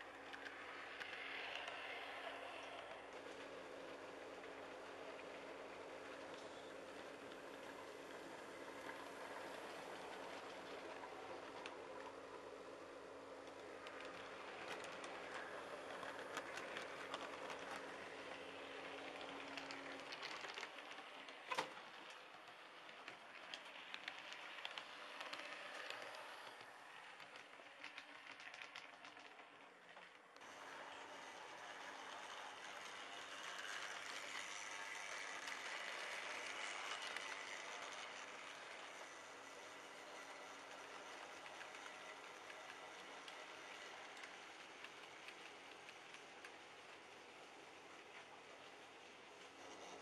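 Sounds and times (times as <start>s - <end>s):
model train hum: 0.0s - 50.0s.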